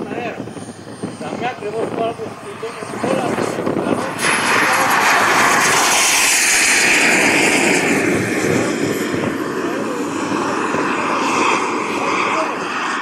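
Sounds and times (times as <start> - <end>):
model jet turbine whine: 0.0 - 13.0.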